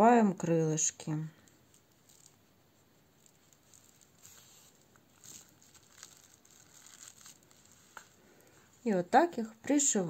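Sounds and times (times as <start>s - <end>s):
faint rustles of yarn: 0.9s - 10.0s.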